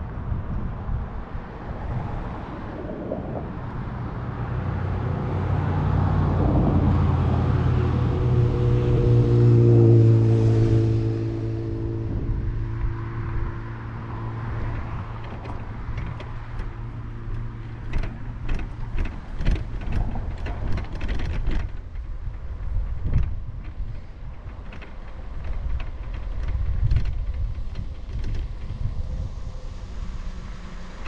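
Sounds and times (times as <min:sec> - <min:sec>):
wheels rolling on paved street: 0:00.0 - 0:31.0
wind rumble: 0:00.0 - 0:31.0.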